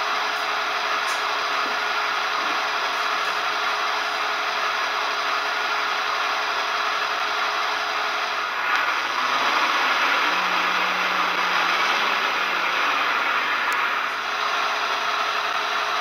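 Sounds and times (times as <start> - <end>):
diesel engine sound through small speaker: 0.0 - 16.0.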